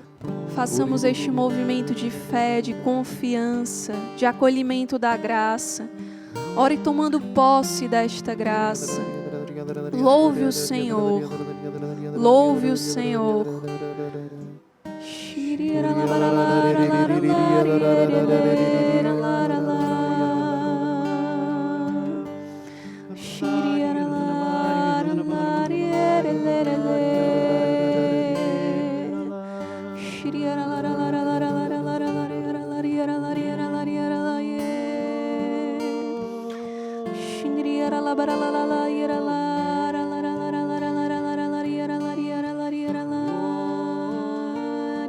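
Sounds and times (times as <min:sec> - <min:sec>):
voices singing worship song: 0:00.0 - 0:03.8, 0:08.0 - 0:45.0
soft accompaniment: 0:00.0 - 0:45.0.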